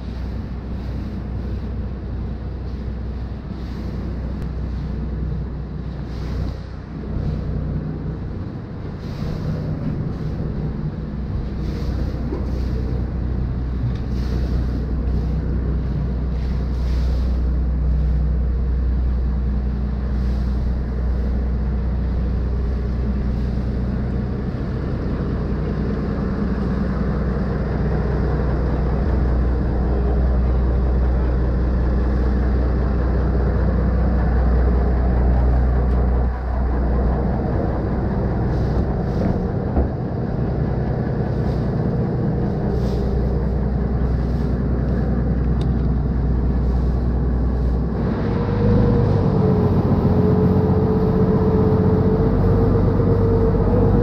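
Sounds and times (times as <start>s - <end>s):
boat diesel engine droning: 0.0s - 54.0s.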